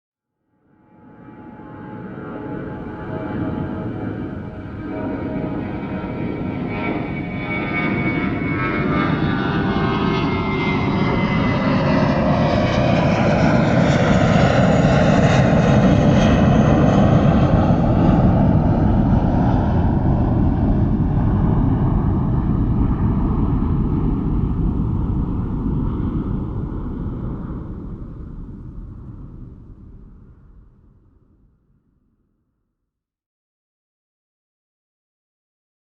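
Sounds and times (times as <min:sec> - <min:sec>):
jet engine roar: 0:01.0 - 0:31.0
falling engine whine: 0:01.1 - 0:30.9.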